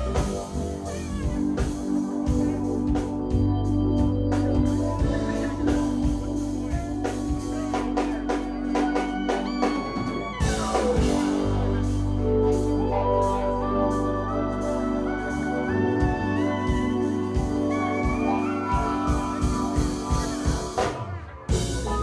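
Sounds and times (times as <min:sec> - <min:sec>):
drum kit: 0:00.0 - 0:22.0
electric bass: 0:00.0 - 0:22.0
keyboards: 0:00.0 - 0:22.0.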